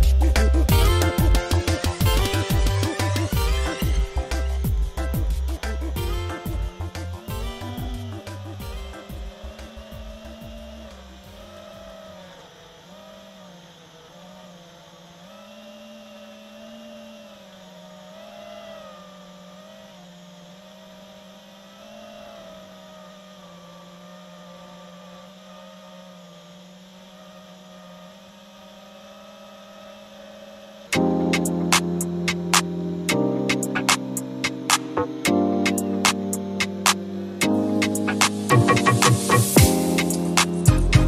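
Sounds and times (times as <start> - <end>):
drone motors whining: 0.0 - 41.0.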